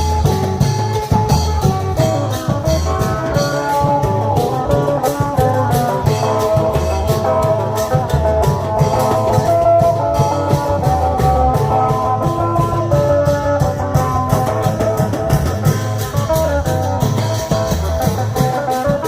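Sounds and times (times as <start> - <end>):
fast drum beat: 0.0 - 19.0
plucked string melody: 0.0 - 19.0.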